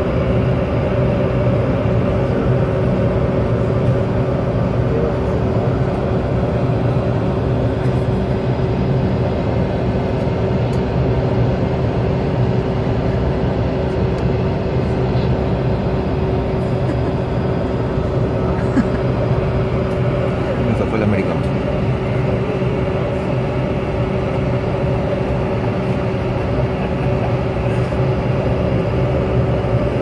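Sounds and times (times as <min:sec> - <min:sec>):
jet engines humming in cabin: 0:00.0 - 0:30.0.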